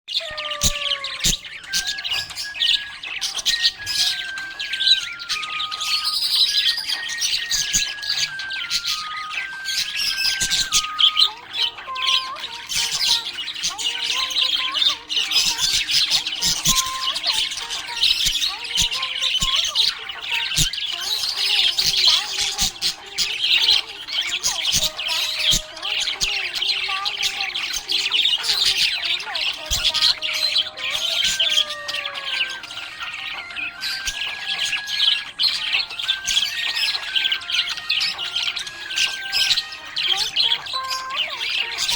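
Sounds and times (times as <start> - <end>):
budgerigar chattering and chirping: 0.1 - 41.9
thin melody of held notes: 0.2 - 41.9.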